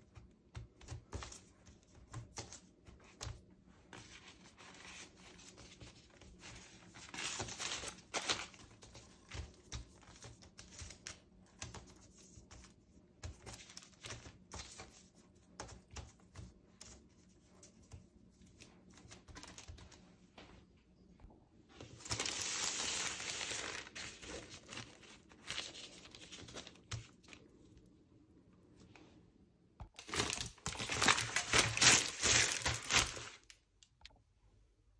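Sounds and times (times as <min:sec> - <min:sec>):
baking parchment rustling: 0:00.1 - 0:20.0, 0:21.7 - 0:27.8, 0:30.0 - 0:33.6.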